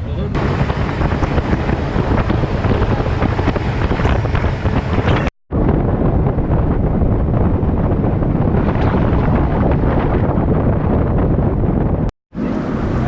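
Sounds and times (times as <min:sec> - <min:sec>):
boat and water noise: 0:00.0 - 0:13.0
wind buffeting microphone: 0:00.0 - 0:13.0.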